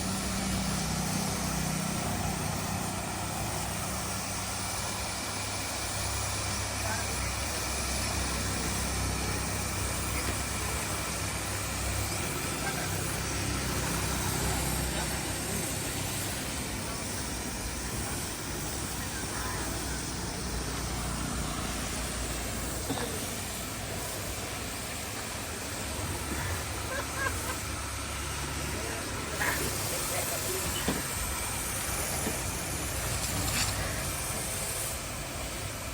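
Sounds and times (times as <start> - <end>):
heavy diesel engine running: 0.0 - 35.9
outdoor noise: 0.0 - 35.9.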